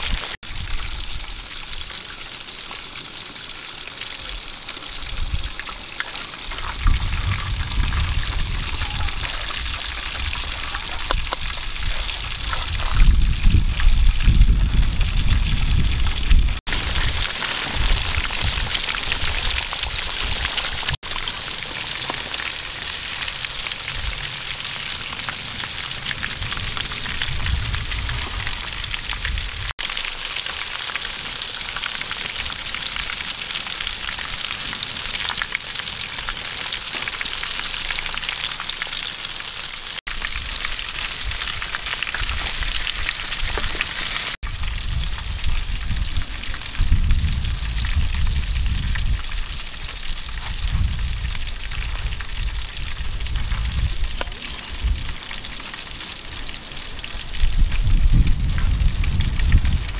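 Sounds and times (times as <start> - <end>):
fish deep-frying in oil: 0.0 - 59.9.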